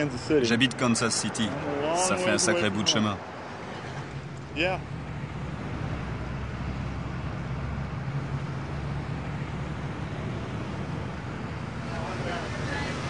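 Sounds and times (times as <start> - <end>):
low engine rumble: 0.0 - 13.0
road traffic: 0.0 - 13.0.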